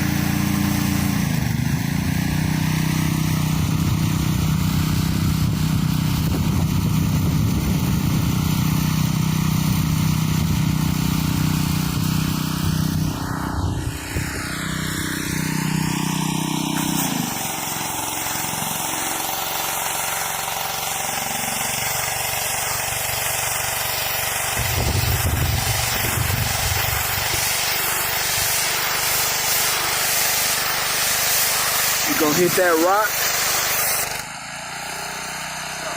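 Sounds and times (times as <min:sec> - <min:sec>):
pressure washer engine running: 0:00.0 - 0:35.9
high-pressure water spray hiss: 0:02.1 - 0:13.1, 0:14.0 - 0:34.1.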